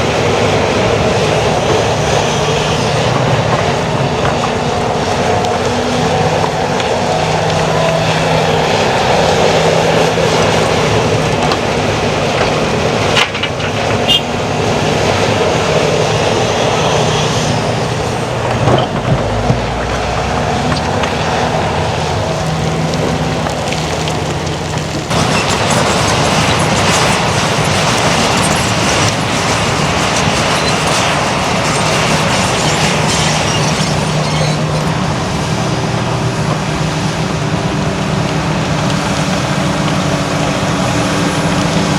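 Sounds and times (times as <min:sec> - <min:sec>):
diesel machinery engine drone: 0:00.0 - 0:41.9.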